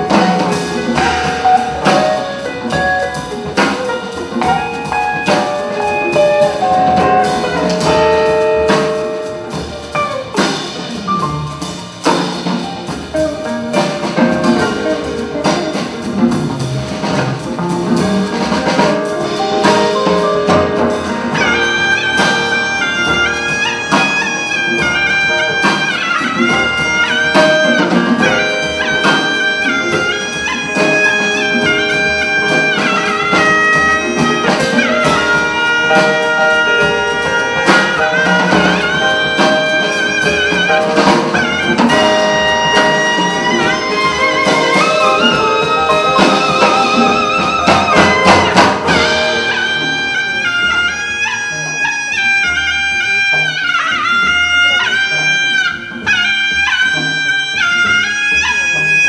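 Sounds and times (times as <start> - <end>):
double bass: 0.0 - 59.0
percussion: 0.0 - 59.0
shawm melody: 0.0 - 59.0.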